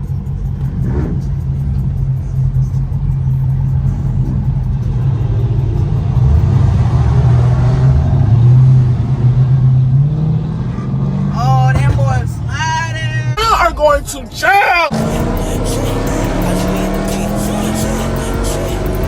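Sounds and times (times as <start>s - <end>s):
car engine exhaust rumble: 0.0s - 19.0s.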